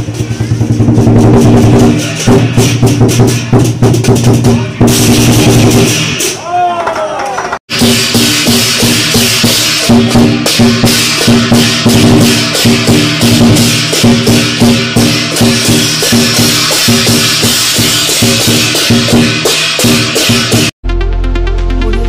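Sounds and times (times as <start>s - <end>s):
cymbals clashing: 0.0s - 6.8s, 7.7s - 20.7s
drum beating fast rhythm: 0.0s - 6.8s, 7.6s - 22.0s.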